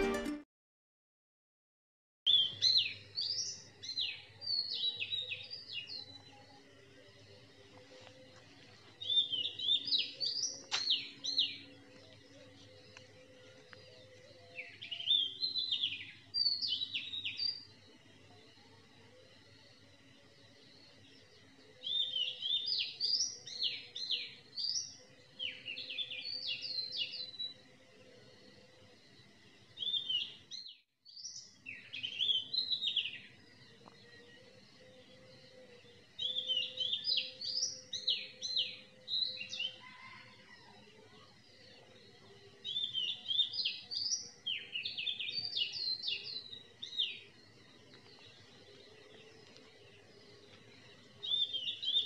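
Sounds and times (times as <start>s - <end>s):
songbird chirping: 2.3s - 52.0s.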